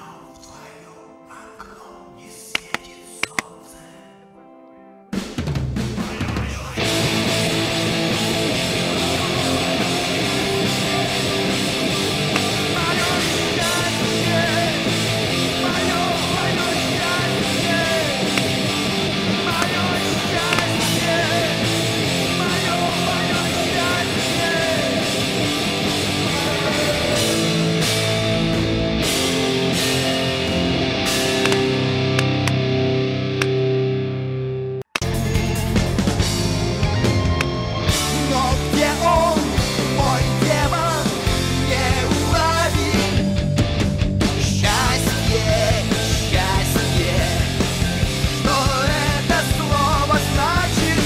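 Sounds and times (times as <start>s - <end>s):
rock music with electric guitar: 5.0s - 51.0s.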